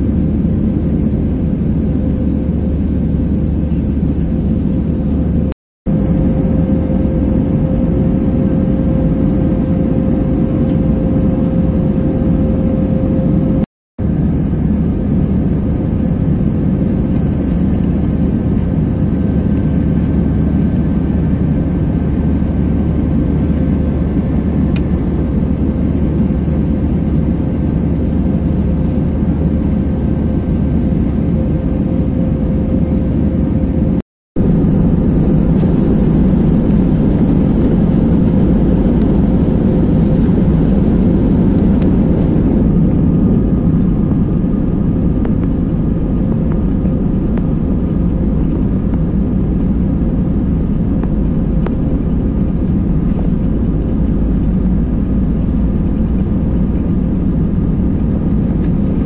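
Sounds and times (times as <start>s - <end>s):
jet engine and airflow roar: 0.0s - 59.0s
steady cabin hum: 0.0s - 59.0s.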